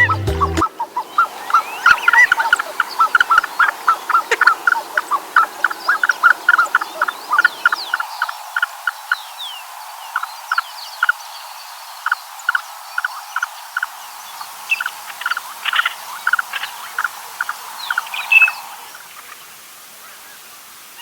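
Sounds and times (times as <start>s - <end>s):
frogs croaking: 0.0s - 20.3s
small birds chirping: 0.0s - 20.6s.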